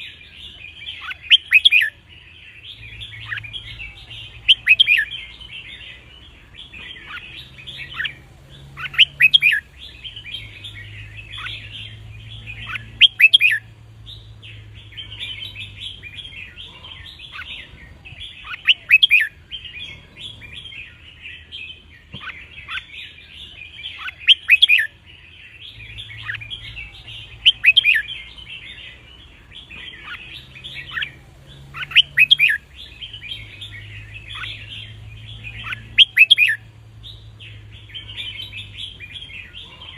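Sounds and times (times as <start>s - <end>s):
bird twittering chatter: 0.0s - 39.9s
sharp bird song phrases: 0.0s - 39.9s.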